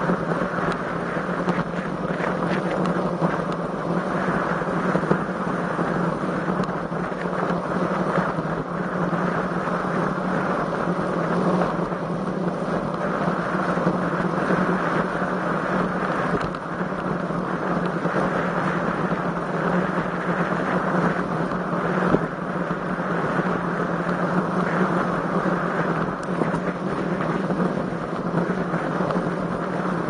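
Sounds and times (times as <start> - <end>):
road noise: 0.0 - 30.0
wind rushing over microphone: 0.0 - 30.0.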